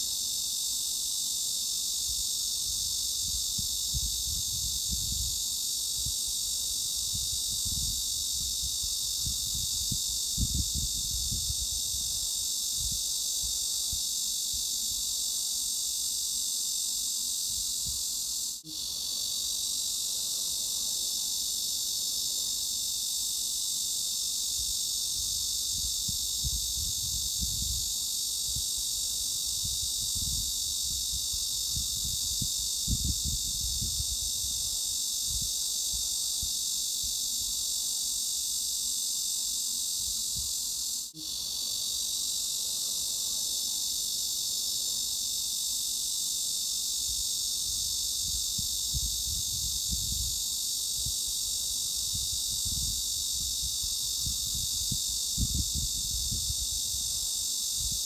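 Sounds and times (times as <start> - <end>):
cicadas buzzing: 0.0 - 58.0.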